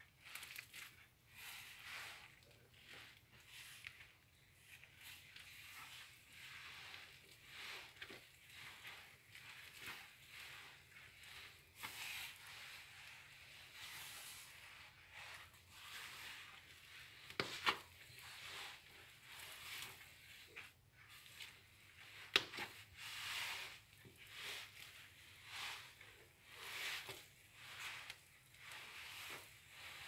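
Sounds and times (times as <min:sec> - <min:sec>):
hands kneading dough: 0:00.0 - 0:30.0.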